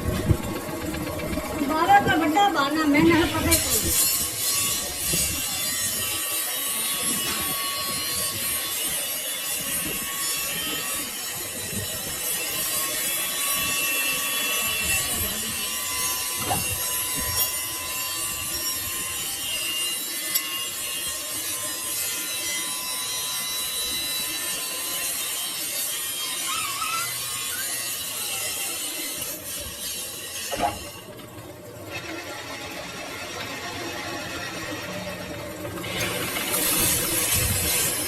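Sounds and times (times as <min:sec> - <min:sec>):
lathe cutting metal: 0:00.0 - 0:38.0.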